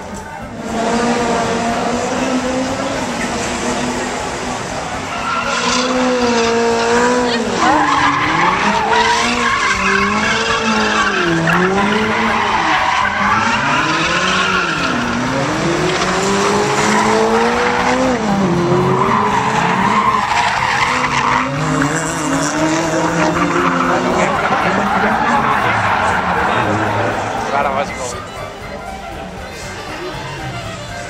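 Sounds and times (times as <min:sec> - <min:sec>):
car engine revving: 0:00.0 - 0:31.0
tyres skidding on pavement: 0:00.0 - 0:31.0.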